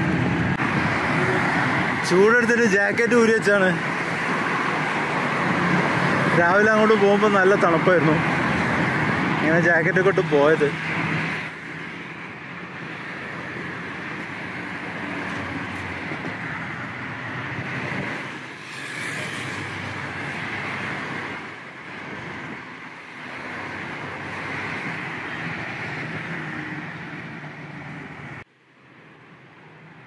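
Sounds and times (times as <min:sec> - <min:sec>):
road traffic passing: 0:00.0 - 0:30.0.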